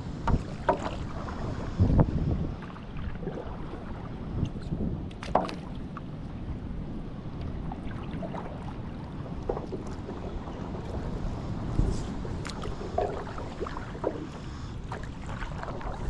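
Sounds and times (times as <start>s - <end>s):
paddle splashing in water: 0.2s - 16.0s.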